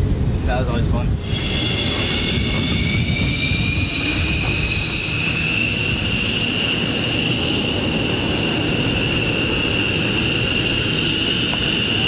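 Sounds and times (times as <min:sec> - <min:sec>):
jet turbine engine whine: 0:00.0 - 0:12.0.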